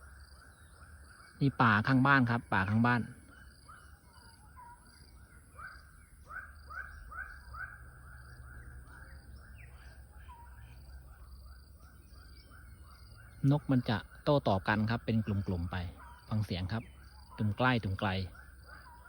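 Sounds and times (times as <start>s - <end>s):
birds calling short repeated notes: 0.0s - 19.0s.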